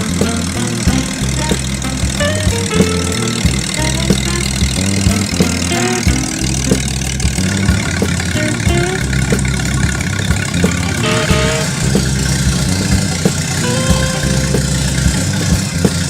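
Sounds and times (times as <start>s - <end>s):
background music with beat: 0.0s - 16.0s
car engine running: 0.0s - 16.0s.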